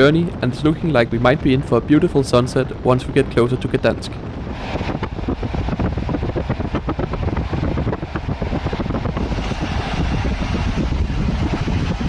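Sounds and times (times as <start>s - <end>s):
train rumbling on track: 0.0s - 12.0s
wind buffeting microphone: 0.0s - 12.0s.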